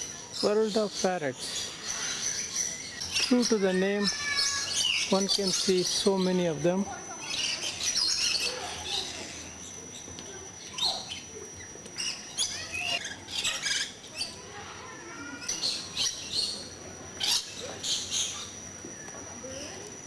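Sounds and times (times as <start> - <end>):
parrots squawking and chirping: 0.0 - 18.7.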